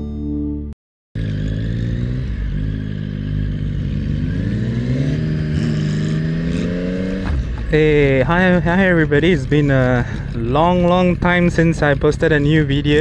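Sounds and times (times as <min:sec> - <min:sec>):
motorcycle engine accelerating: 0:01.2 - 0:13.0
road and wind noise: 0:01.2 - 0:13.0.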